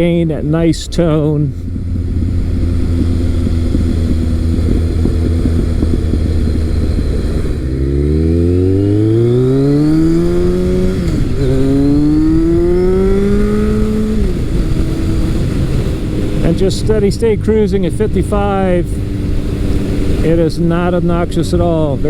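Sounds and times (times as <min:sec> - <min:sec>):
motorcycle engine accelerating: 0:00.0 - 0:22.0
wind rushing at microphone: 0:00.0 - 0:22.0.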